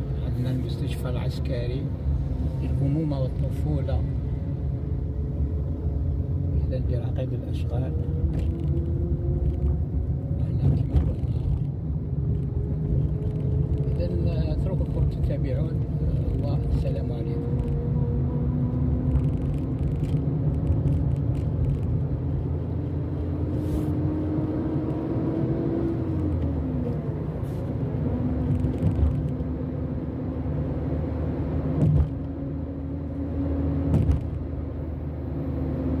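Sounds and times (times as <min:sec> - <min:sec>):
car engine hum: 0:00.0 - 0:36.0
road rumble: 0:00.0 - 0:36.0.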